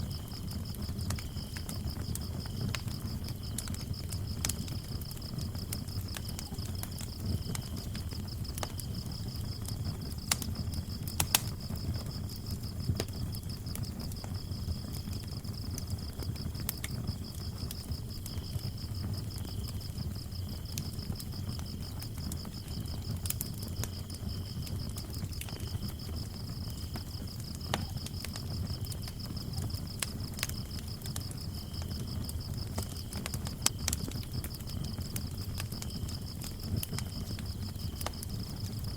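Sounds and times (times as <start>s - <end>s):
cricket chirp: 0.0s - 38.9s
fire crackling and popping: 0.0s - 38.9s
fire low rumble: 0.0s - 38.9s.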